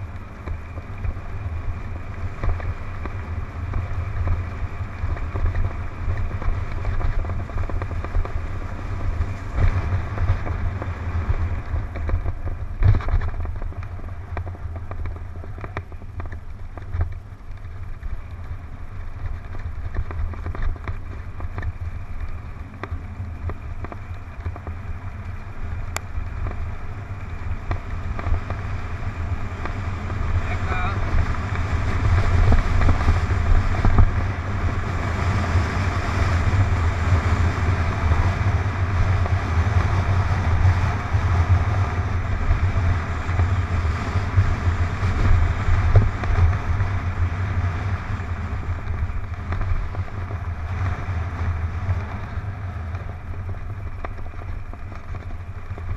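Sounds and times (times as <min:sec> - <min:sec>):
bike clattering over bumps: 0:00.0 - 0:55.9
bike tyres rumbling on dirt: 0:00.0 - 0:55.9
wind buffeting microphone: 0:00.0 - 0:55.9.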